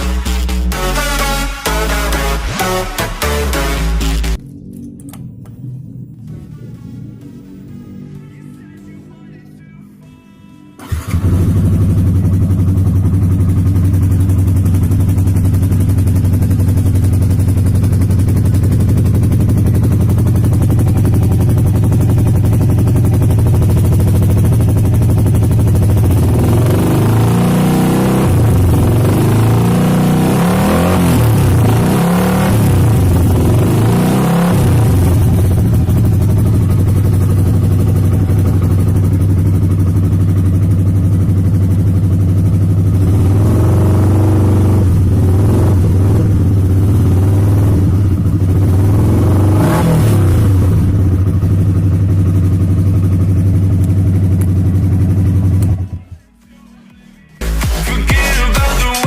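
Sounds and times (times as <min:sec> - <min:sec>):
motorcycle engine idling and revving: 0:00.0 - 0:56.2.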